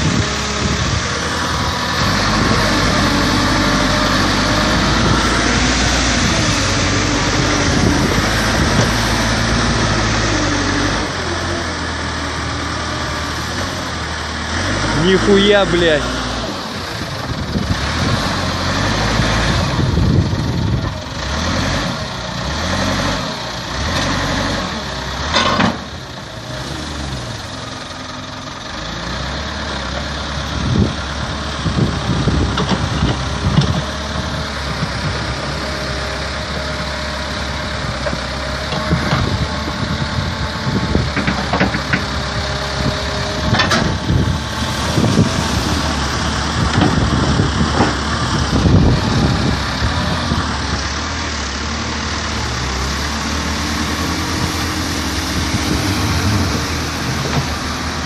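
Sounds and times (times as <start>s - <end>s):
vehicle engine revving: 0.0s - 27.8s, 30.5s - 58.0s.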